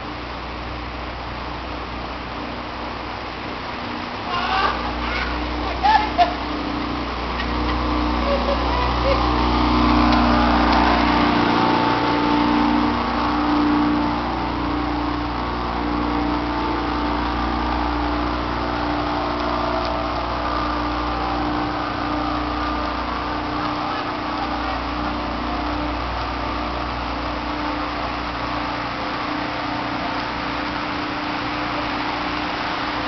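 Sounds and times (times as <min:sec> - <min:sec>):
low rumble: 0:00.0 - 0:33.0
motor hum: 0:00.0 - 0:33.0.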